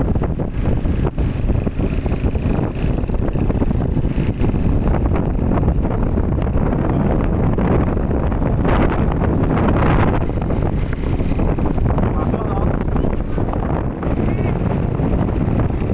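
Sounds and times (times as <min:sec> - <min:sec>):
quad bike engine running: 0:00.0 - 0:15.9
wind buffeting microphone: 0:00.0 - 0:15.9.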